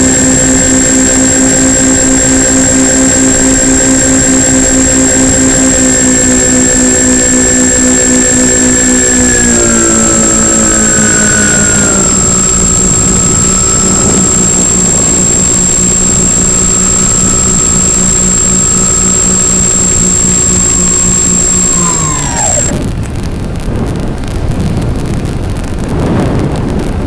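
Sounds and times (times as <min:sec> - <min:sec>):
model plane motors humming: 0:00.0 - 0:22.7
thin high whine: 0:00.0 - 0:22.9.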